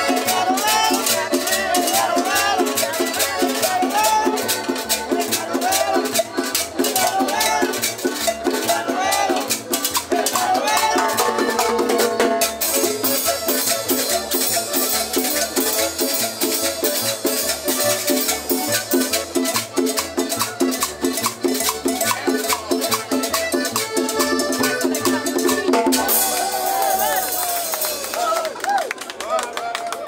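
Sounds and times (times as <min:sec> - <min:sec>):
latin dance band music: 0:00.0 - 0:28.8.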